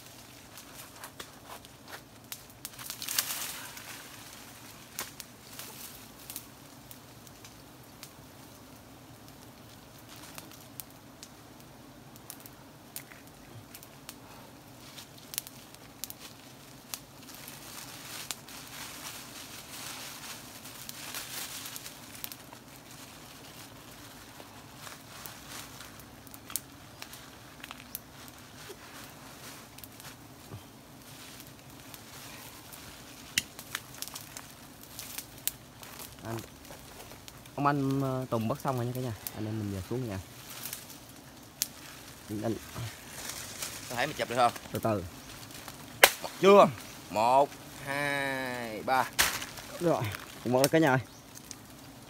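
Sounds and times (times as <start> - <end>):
snaps and crackles of twigs: 0.0 - 52.0.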